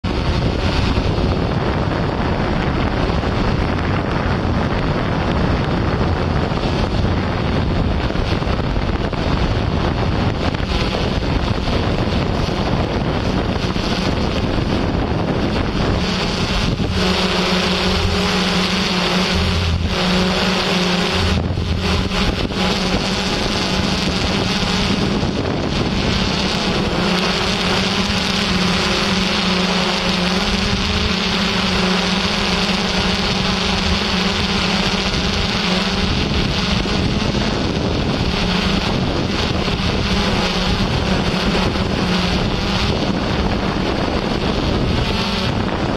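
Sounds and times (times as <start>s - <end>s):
low multi-tone motor hum: 0.0s - 45.9s
wind on microphone: 0.0s - 45.9s.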